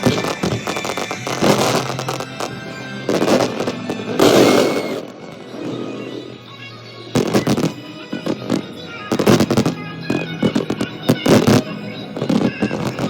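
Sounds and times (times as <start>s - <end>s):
fireworks bangs and crackling: 0.0s - 6.0s, 7.1s - 13.0s
music: 0.0s - 13.0s.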